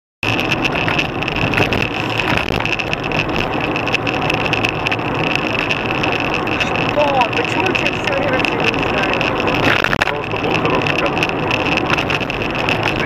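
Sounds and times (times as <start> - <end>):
car engine and tyre noise on wet road: 0.2 - 13.0
constant high hum: 0.2 - 13.0.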